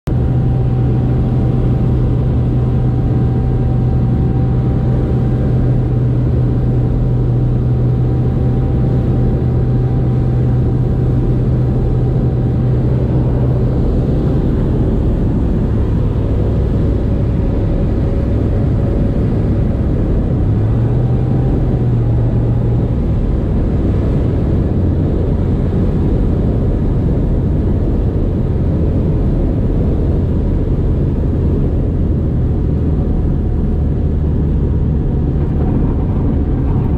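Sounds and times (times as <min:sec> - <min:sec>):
airplane propeller engine running: 0:00.0 - 0:36.9.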